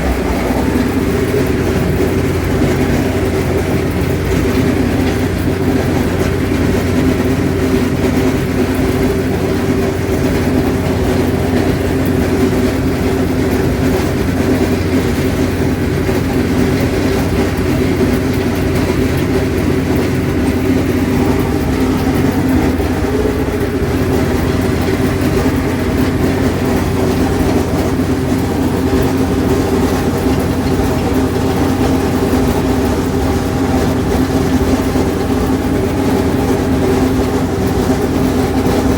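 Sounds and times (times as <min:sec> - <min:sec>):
diesel tractor running: 0:00.0 - 0:38.9
hay mower hammering and clanging: 0:00.0 - 0:38.9.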